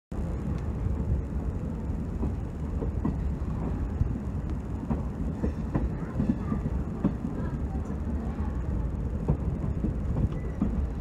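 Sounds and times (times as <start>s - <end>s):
train wheels rumbling on rails: 0.1s - 11.0s.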